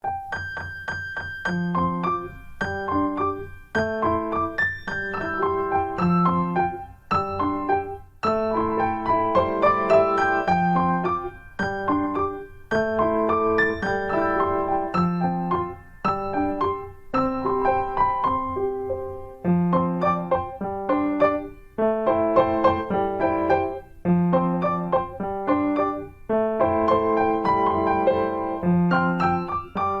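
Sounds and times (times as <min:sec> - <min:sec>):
gentle piano melody: 0:00.0 - 0:30.0.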